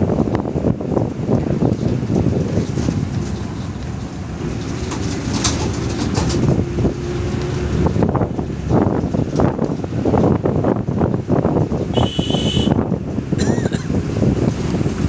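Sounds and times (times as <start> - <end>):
vehicle road noise: 0.0 - 15.0
wind buffeting microphone: 0.0 - 15.0.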